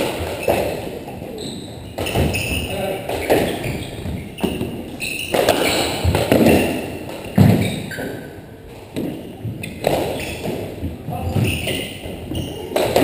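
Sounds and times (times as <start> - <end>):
squash ball hitting racquets: 0.0 - 1.2, 1.8 - 13.0
shoe squeaks on hardwood floor: 0.2 - 8.4, 9.1 - 13.0.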